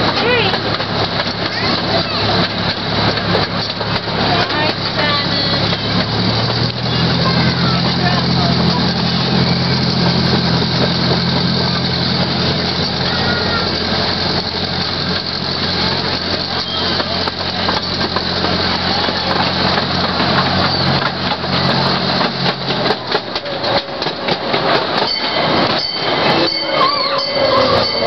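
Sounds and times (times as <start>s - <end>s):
passenger cars rattling: 0.0s - 28.0s
train low hum: 0.0s - 28.0s
wheels clattering on rails: 0.0s - 28.0s.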